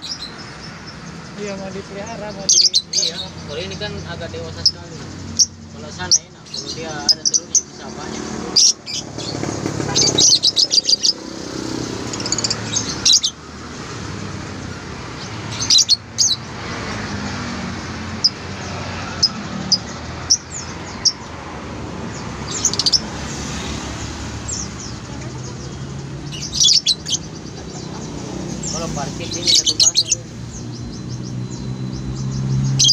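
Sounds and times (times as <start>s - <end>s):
lovebirds chirping: 0.0s - 32.9s.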